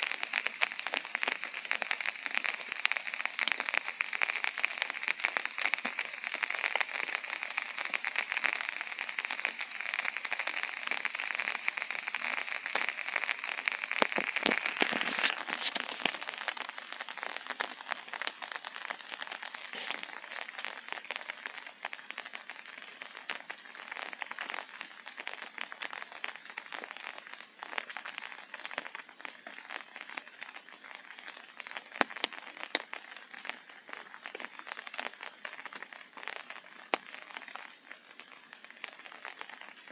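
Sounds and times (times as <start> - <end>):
rain pattering on tent fabric: 0.0 - 39.9
single louder raindrops: 0.0 - 39.9.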